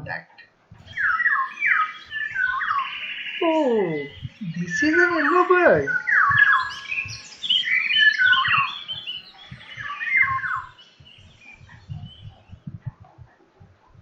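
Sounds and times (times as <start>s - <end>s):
bird singing whistled notes: 0.8s - 13.2s.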